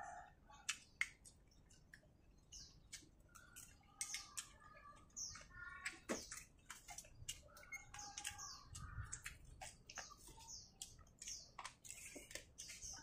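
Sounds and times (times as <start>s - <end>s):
small birds chirping: 0.0s - 13.0s
chewing: 0.2s - 13.0s.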